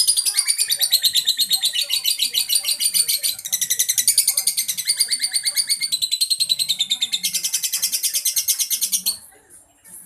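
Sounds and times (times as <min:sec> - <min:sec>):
lovebird chattering chirps: 0:00.0 - 0:09.2.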